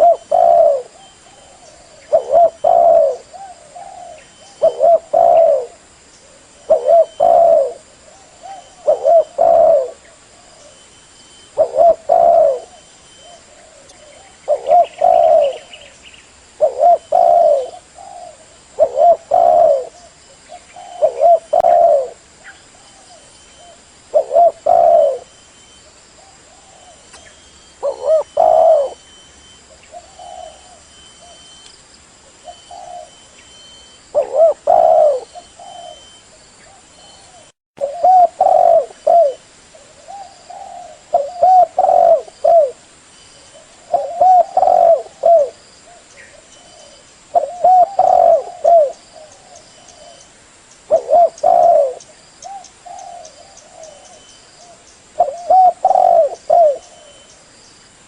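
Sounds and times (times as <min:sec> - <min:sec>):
dove cooing: 0:00.0 - 0:16.0, 0:16.6 - 0:31.6, 0:32.3 - 0:42.8, 0:43.4 - 0:50.3, 0:50.9 - 0:57.4.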